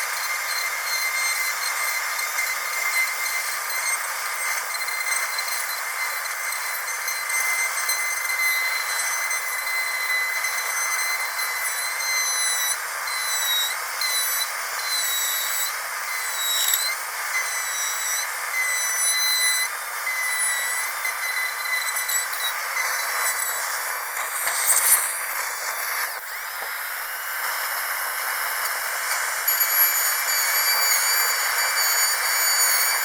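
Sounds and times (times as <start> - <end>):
dentist's drill whining: 0.0 - 33.0.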